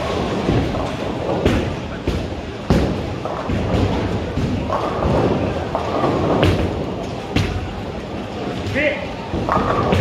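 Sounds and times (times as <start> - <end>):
balls knocking pins: 0.0 - 7.6, 9.3 - 10.0
bowling balls rolling on lanes: 0.0 - 10.0.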